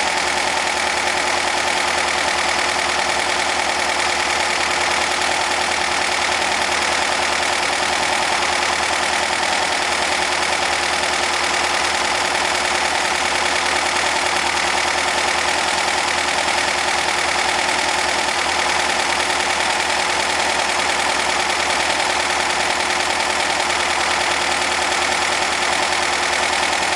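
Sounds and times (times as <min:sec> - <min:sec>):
car engine running steadily: 0:00.0 - 0:26.9.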